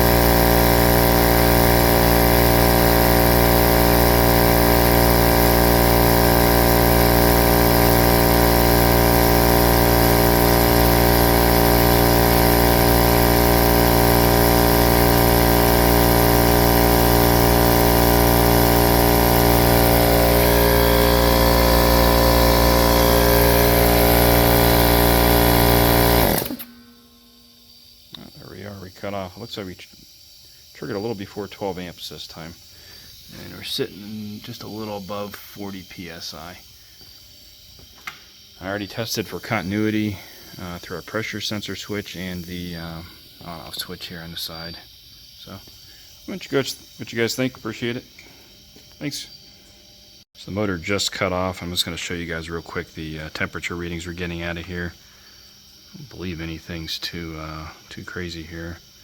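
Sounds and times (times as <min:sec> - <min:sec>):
air compressor running: 0:00.0 - 0:29.0, 0:29.9 - 0:44.0, 0:45.0 - 0:50.6.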